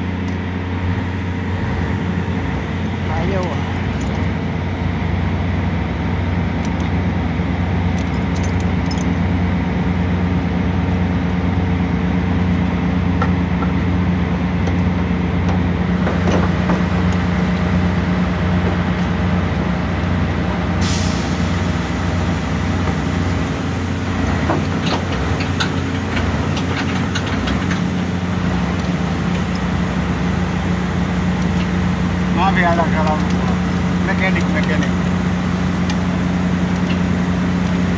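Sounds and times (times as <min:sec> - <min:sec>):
truck engine idling: 0:00.0 - 0:37.9.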